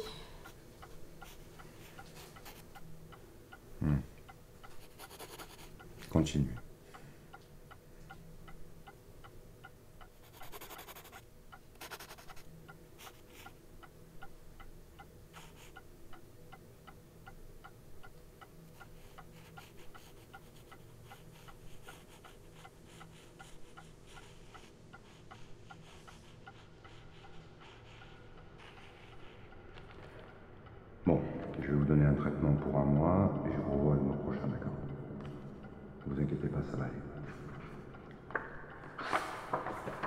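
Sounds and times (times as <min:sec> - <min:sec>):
clock ticking: 0:00.0 - 0:38.9
low room hum: 0:00.0 - 0:40.0.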